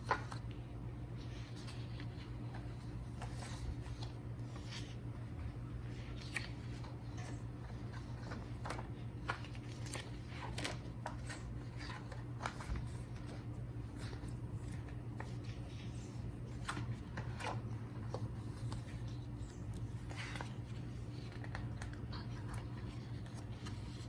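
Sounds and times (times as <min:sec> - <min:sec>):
low steady hum: 0:00.0 - 0:24.0
paper pages rustling: 0:00.0 - 0:24.0.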